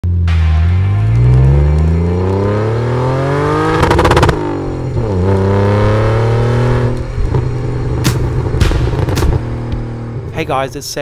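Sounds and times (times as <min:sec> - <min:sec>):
car engine accelerating: 0:00.0 - 0:11.0
engine crackle: 0:00.0 - 0:11.0.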